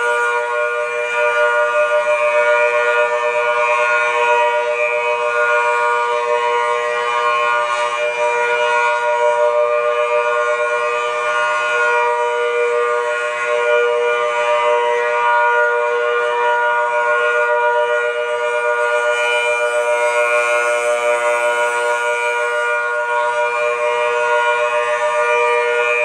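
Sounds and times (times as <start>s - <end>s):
warning siren: 0.0s - 26.0s.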